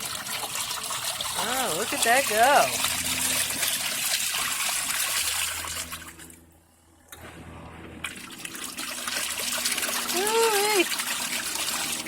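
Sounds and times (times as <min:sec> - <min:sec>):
water churning and sloshing: 0:00.0 - 0:06.5, 0:08.0 - 0:12.0
low motor hum: 0:00.0 - 0:12.0.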